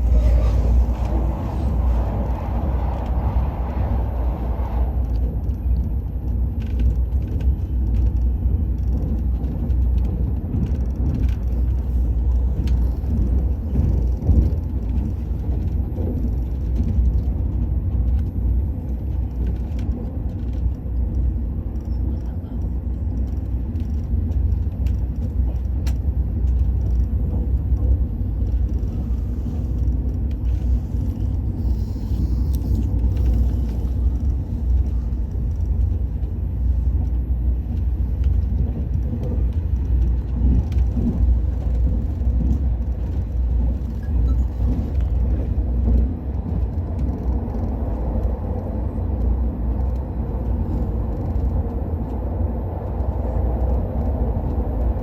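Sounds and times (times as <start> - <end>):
train cabin deep rumble: 0.0 - 55.0
faint clicks and rattles: 4.9 - 55.0.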